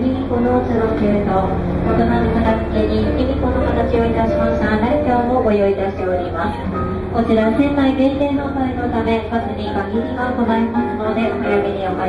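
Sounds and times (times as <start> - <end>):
background music: 0.0 - 12.0
boat engine hum: 0.0 - 12.0
voices: 0.0 - 12.0.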